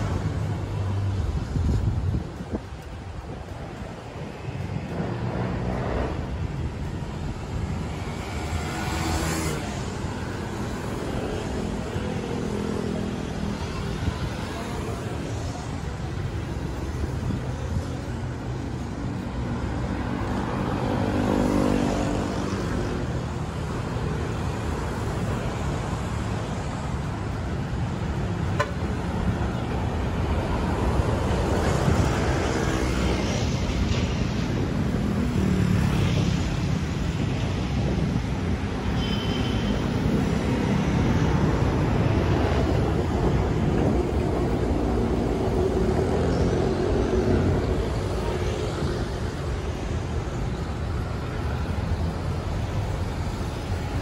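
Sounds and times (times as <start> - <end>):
cars and motorcycles passing: 0.0 - 54.0
steady road hum: 0.0 - 54.0.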